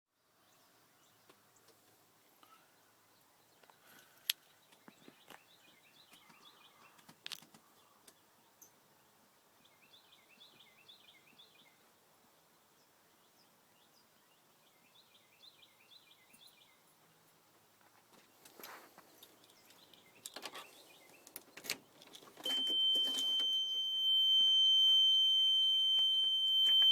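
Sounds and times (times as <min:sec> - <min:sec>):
faint bird chirping: 0:00.4 - 0:17.3, 0:18.2 - 0:26.9.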